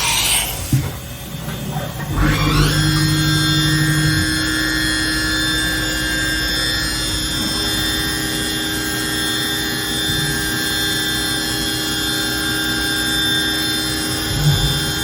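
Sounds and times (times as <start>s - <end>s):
constant whining tones: 0.0s - 15.0s
machining center hum: 0.0s - 15.0s.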